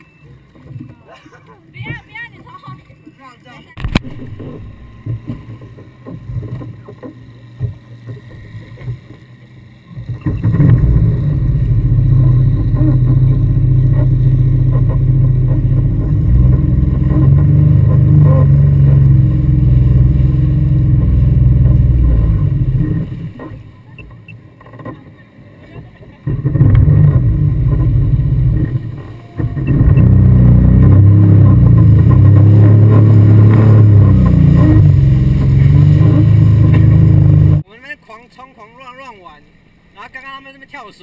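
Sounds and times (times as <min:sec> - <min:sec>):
jet ski engines droning: 0:00.0 - 0:41.0.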